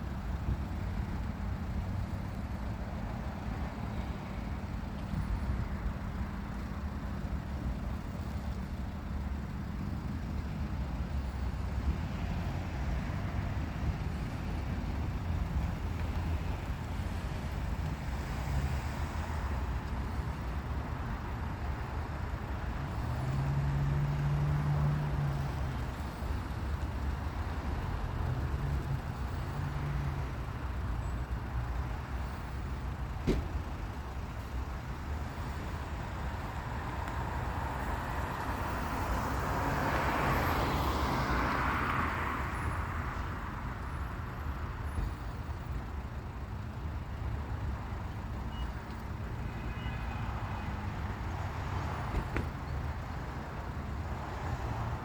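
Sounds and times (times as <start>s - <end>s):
engine hum: 0.0s - 55.0s
road traffic rumble: 0.0s - 55.0s.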